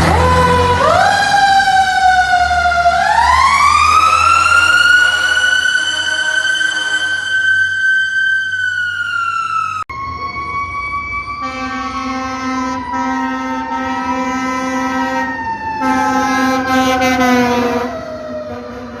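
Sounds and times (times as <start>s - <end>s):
fire truck sirens wailing: 0.0s - 19.0s.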